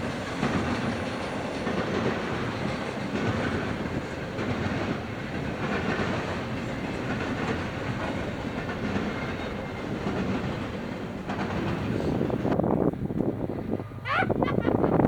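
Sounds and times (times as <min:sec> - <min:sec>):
wheels clacking over rail joints: 0:00.0 - 0:13.4
freight train rumbling past: 0:00.0 - 0:15.0.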